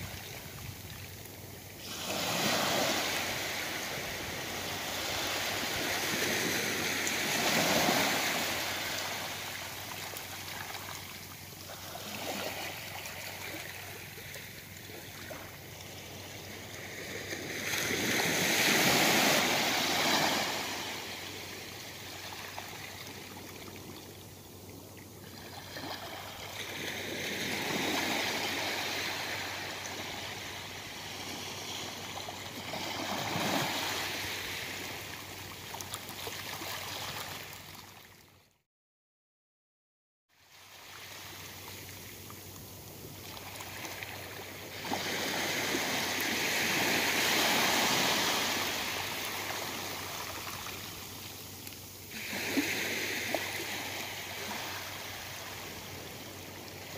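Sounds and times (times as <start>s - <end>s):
gentle waves washing onto beach: 0.0s - 38.2s, 40.4s - 56.9s.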